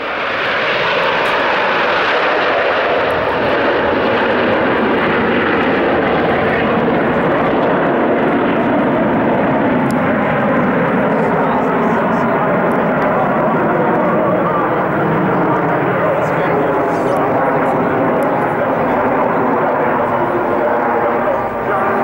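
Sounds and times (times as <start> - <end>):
jets flying overhead: 0.0 - 22.0.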